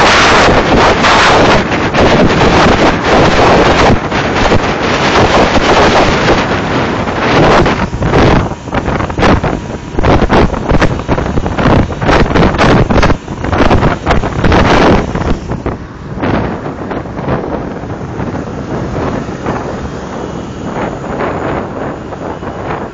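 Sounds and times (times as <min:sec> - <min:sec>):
motorcycles riding: 0:00.0 - 0:22.9
wind buffeting microphone: 0:00.0 - 0:22.9.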